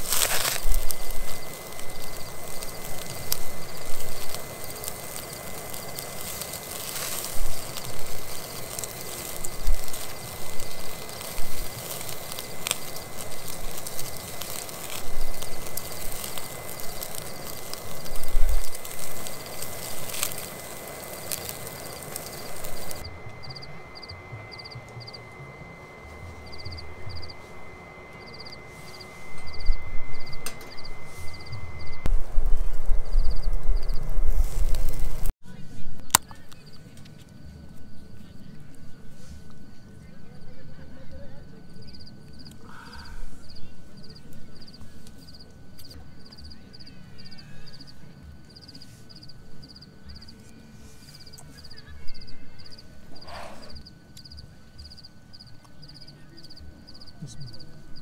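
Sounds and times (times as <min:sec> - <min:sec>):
night-time chirping: 0:00.0 - 0:35.3, 0:41.4 - 0:58.0
fire hiss: 0:00.0 - 0:35.4, 0:36.2 - 0:58.0
wood fire crackling: 0:00.0 - 0:35.4, 0:36.0 - 0:58.0.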